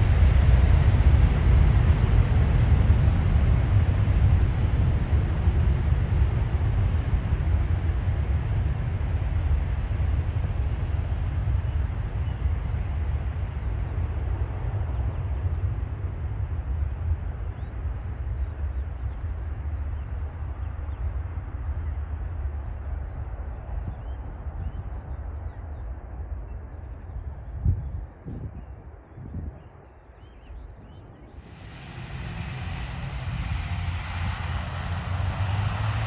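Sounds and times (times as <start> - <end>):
jet engines at takeoff: 0.0 - 36.0.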